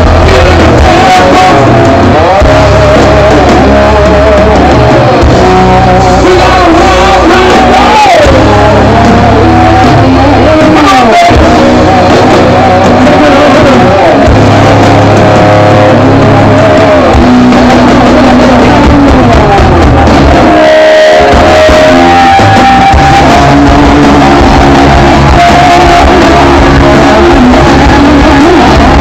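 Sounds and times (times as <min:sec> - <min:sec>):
electric guitar bending notes: 0:00.0 - 0:29.0
heavy bass line: 0:00.0 - 0:29.0
person singing: 0:00.0 - 0:29.0.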